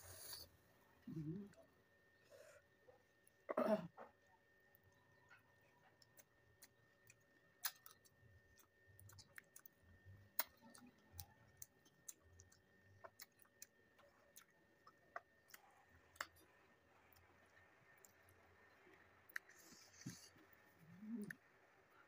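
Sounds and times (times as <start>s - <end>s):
quiet chewing: 0.0s - 22.0s.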